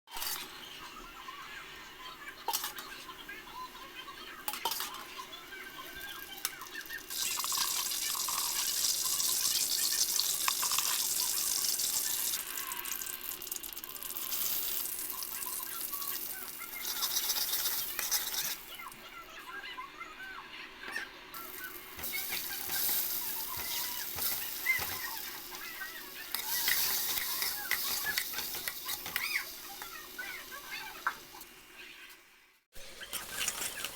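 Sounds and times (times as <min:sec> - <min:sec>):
eggs sizzling in oil: 0:00.1 - 0:33.9.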